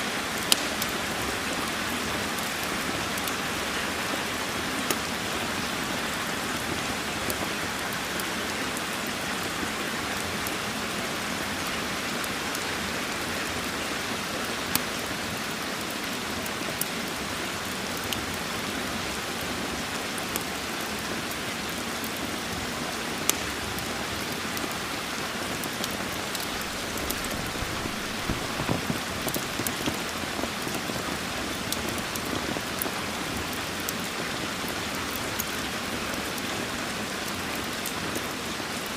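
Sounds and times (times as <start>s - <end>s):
steady rain: 0.0s - 38.9s
wood fire crackling: 0.1s - 38.9s.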